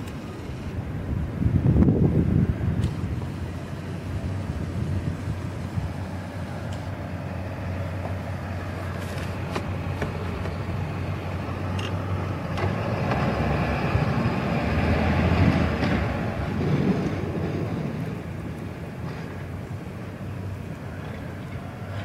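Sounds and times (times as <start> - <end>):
blizzard wind gusting: 0.0 - 22.0
constant low hum: 0.0 - 22.0.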